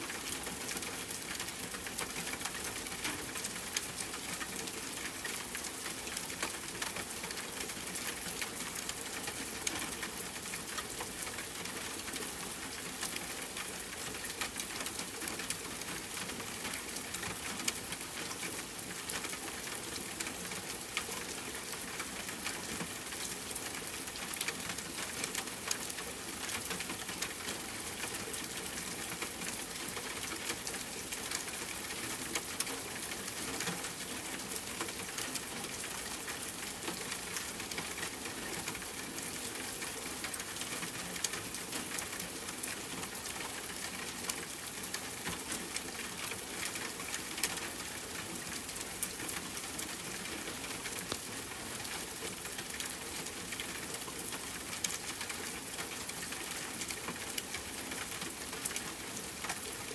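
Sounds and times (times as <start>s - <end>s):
raindrops ticking on a surface: 0.0s - 59.9s
steady rain hiss: 0.0s - 59.9s.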